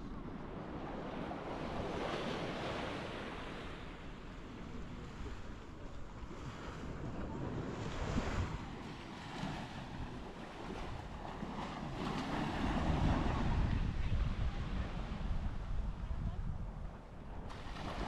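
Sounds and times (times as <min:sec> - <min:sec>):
surf washing onto beach: 0:00.0 - 0:16.0, 0:17.4 - 0:18.0
wind buffeting microphone: 0:00.0 - 0:18.0.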